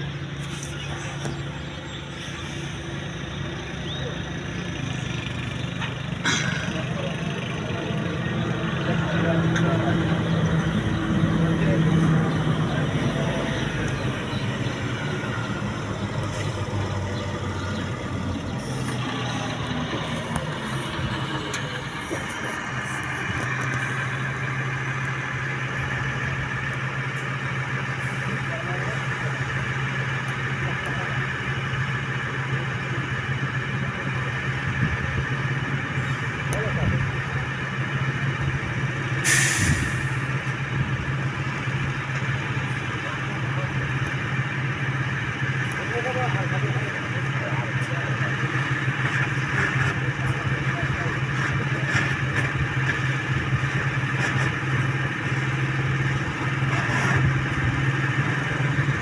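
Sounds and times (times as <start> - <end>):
heavy vehicle engines humming: 0.0 - 59.0.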